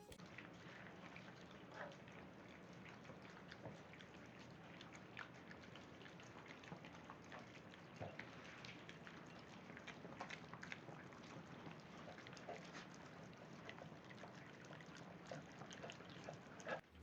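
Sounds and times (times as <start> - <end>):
small dogs clicking and ticking: 1.7 - 16.9.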